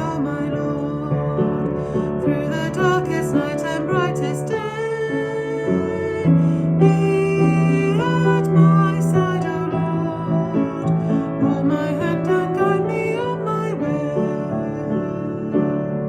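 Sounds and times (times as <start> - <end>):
person singing slow melody: 0.0 - 16.0
piano accompaniment: 0.0 - 16.0.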